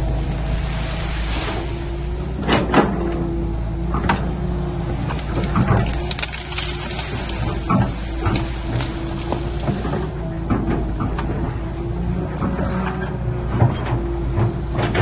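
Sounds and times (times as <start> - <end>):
excavator engine running: 0.0 - 15.0
knocks and clanks of machine: 2.4 - 4.4, 5.0 - 15.0.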